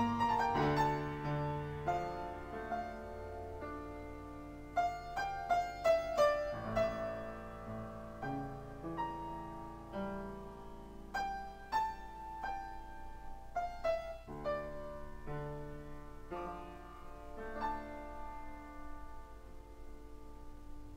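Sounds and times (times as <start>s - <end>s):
slow solo piano piece: 0.0s - 20.9s.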